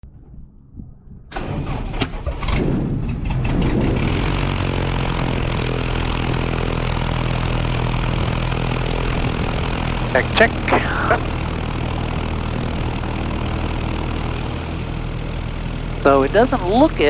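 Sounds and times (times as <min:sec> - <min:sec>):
propeller engine starting: 0:01.3 - 0:17.0.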